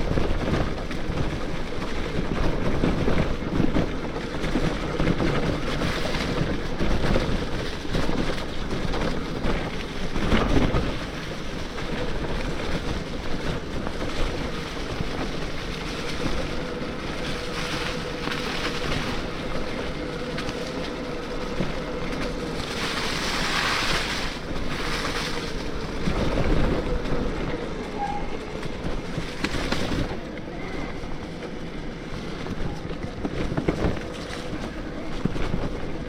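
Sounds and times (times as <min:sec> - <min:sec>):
bike tyre noise: 0:00.0 - 0:36.0
wind on microphone: 0:00.0 - 0:36.0.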